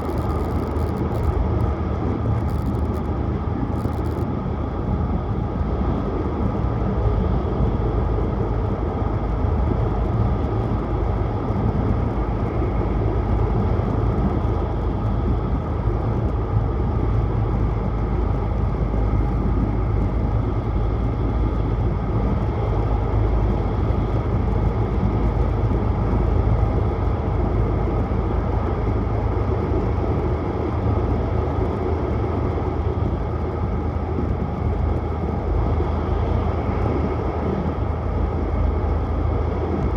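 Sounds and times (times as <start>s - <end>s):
train rumbling at speed: 0.0s - 39.9s.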